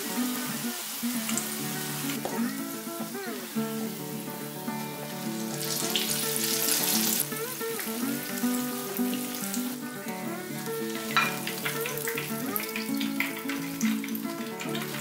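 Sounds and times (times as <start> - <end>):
background music: 0.0 - 15.0
eggplant sizzling in hot oil: 0.0 - 15.0.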